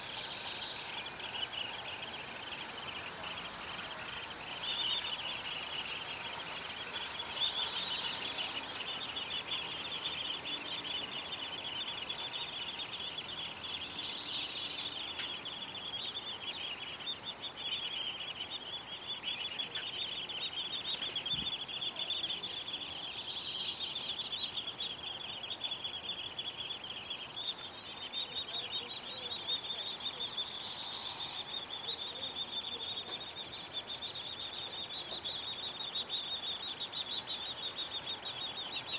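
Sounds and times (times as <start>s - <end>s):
bird calls: 0.0s - 38.9s
crickets chirring: 0.0s - 38.9s.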